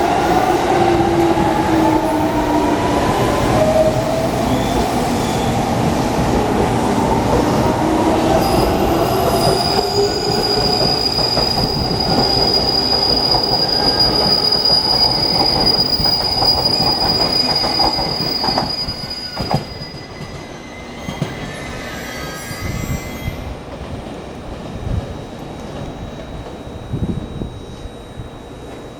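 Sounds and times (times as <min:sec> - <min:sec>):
high steady train squeal: 0:00.0 - 0:28.9.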